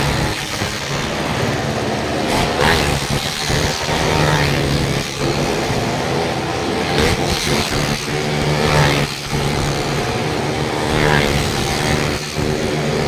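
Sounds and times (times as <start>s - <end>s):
busy background noise: 0.0s - 13.0s
motor drone: 0.0s - 13.0s.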